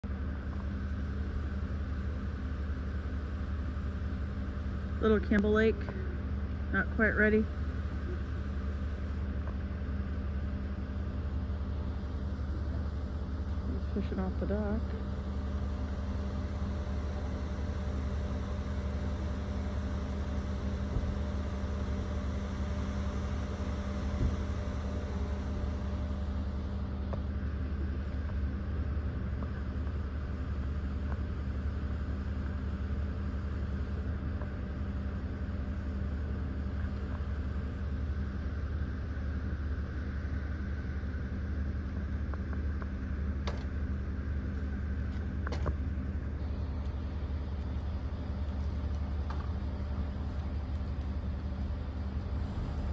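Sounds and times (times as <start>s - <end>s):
constant hum: 0.0s - 52.9s
low mechanical rumble: 0.0s - 52.9s.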